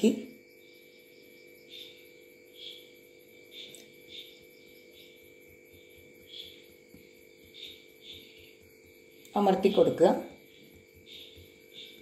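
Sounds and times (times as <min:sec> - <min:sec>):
cricket chirps: 0:00.0 - 0:12.0
steady background hum: 0:00.0 - 0:12.0.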